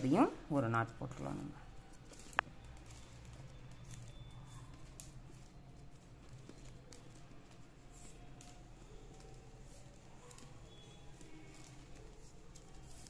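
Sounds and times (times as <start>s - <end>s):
plastic wire rustling and ticking: 0.0s - 13.0s.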